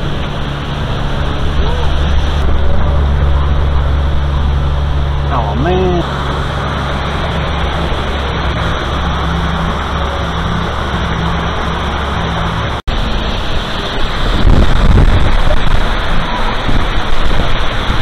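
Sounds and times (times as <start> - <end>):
steady low hum: 0.0 - 18.0
waterfall rushing water: 0.0 - 18.0.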